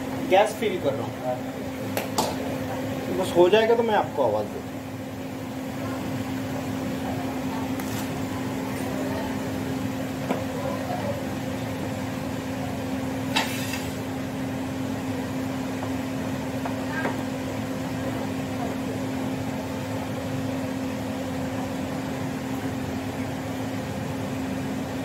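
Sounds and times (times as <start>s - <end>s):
refrigerator compressor humming: 0.0s - 25.0s.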